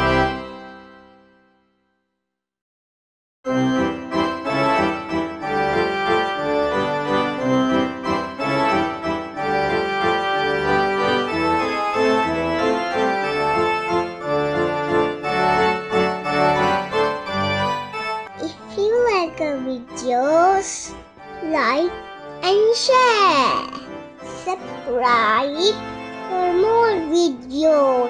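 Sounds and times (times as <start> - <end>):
upbeat organ-like keyboard tune: 0.0 - 1.3, 3.5 - 28.0.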